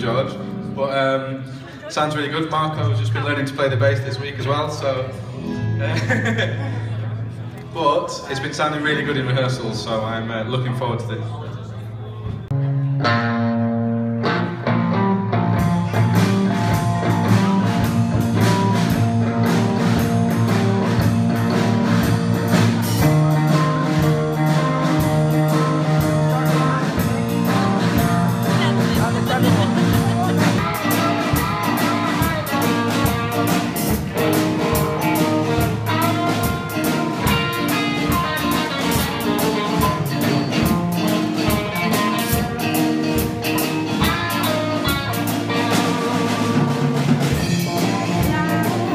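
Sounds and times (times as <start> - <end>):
live rock band playing: 0.0 - 48.9.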